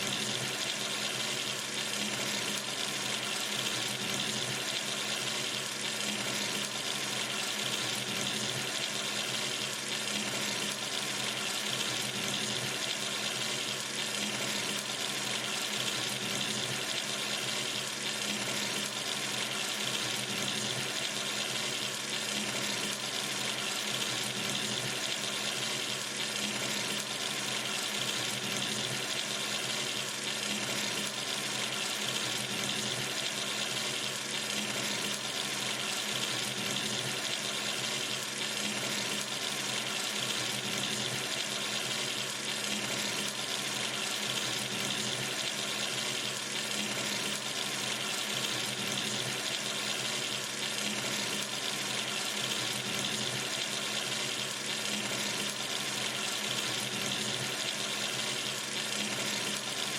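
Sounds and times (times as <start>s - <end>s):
water running from tap: 0.0s - 59.9s.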